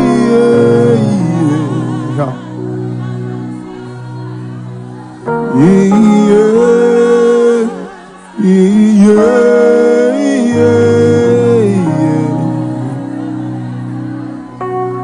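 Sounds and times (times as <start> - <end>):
slow worship music: 0.0 - 15.0.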